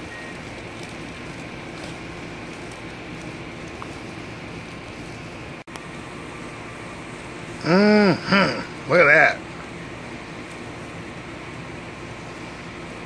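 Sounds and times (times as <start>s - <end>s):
steak sizzling on a grill: 0.0s - 13.0s.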